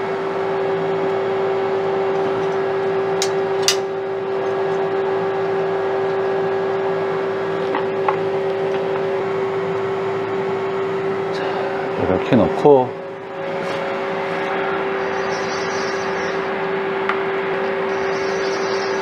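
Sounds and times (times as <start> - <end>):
lathe idling hum: 0.0 - 19.0.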